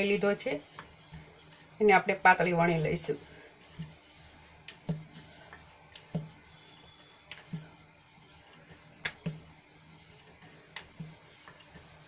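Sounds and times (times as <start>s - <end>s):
rolling pin rolling dough: 0.0s - 12.0s.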